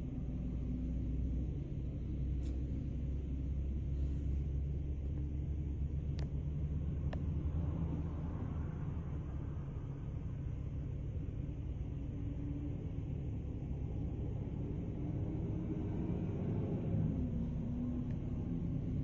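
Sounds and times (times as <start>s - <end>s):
convoy of trucks rumbling: 2.9s - 19.0s.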